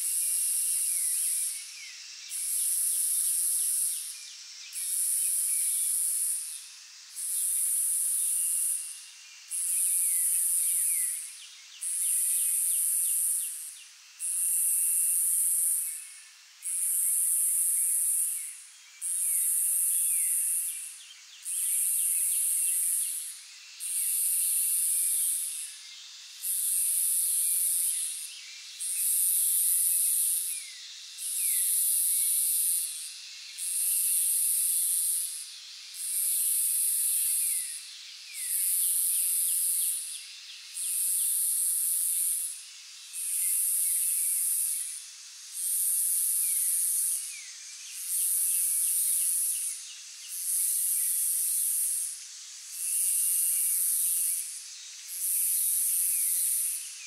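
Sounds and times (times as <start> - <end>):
cicadas buzzing: 0.0 - 57.0
faint insect hiss: 0.0 - 57.0.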